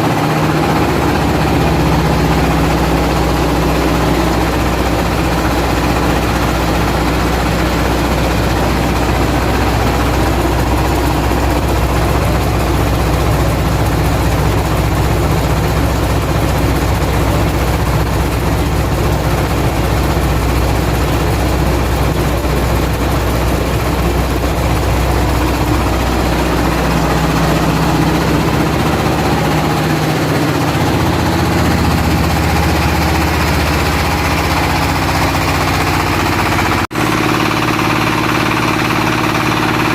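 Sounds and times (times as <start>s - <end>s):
machine droning: 0.0s - 39.9s.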